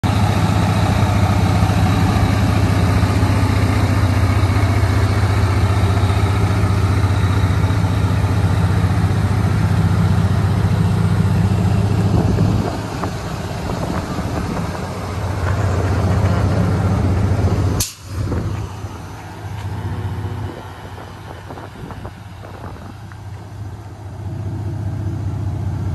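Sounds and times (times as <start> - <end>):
diesel truck engine idling: 0.0 - 25.9.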